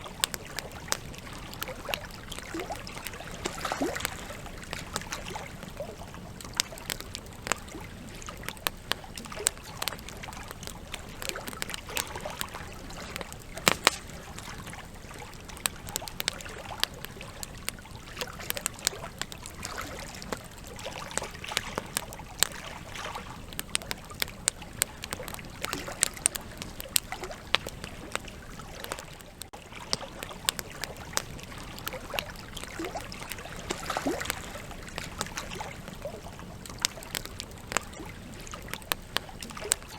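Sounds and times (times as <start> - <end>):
campfire logs crackling and popping: 0.0 - 39.9
fire hissing softly: 0.0 - 39.9.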